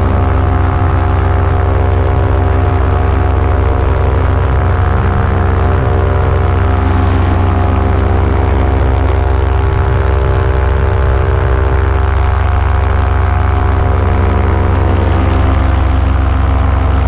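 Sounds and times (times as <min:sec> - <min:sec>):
paramotor engine and propeller drone: 0:00.0 - 0:17.0.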